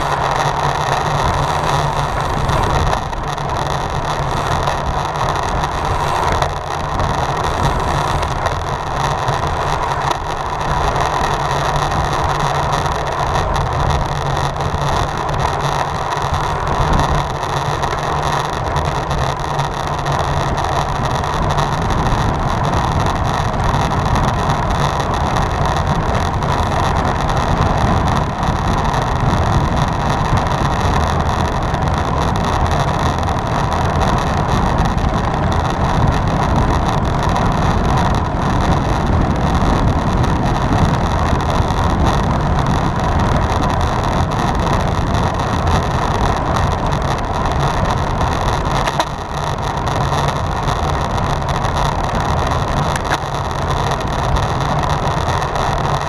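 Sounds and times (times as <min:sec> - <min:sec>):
low rumble of bicycle ride: 0:00.0 - 0:56.0
wind rushing over microphone: 0:00.0 - 0:56.0.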